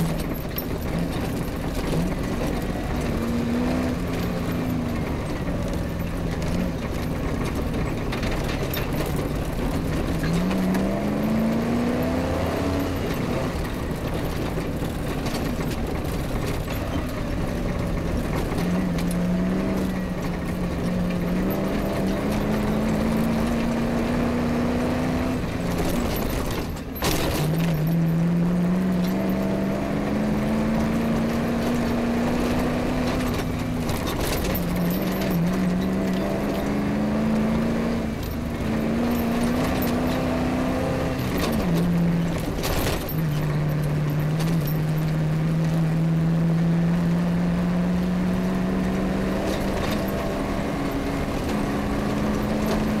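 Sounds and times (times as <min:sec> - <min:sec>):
car knocks and rattles: 0:00.0 - 0:53.0
rally car engine revving: 0:00.0 - 0:53.0.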